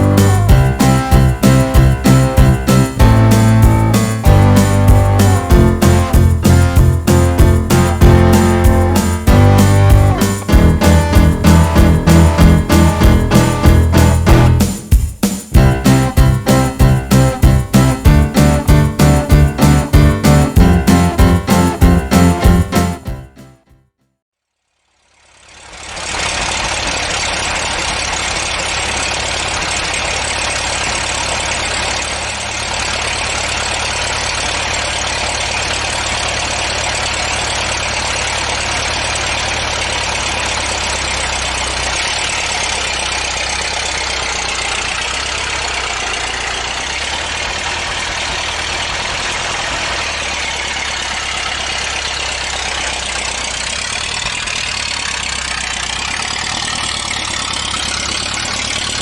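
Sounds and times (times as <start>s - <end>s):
vehicle engine running: 0.0s - 23.3s, 25.3s - 59.0s.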